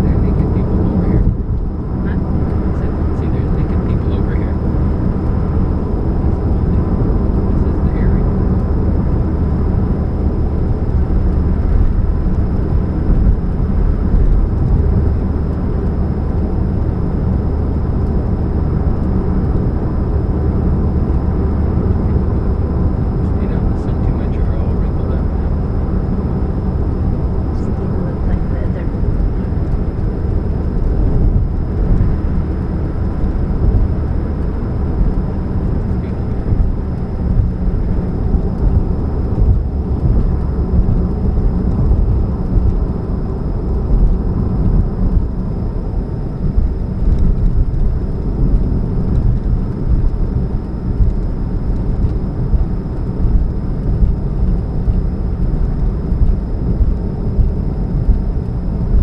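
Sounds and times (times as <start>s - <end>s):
car engine droning: 0.0s - 59.0s
faint steady hum: 0.0s - 59.0s.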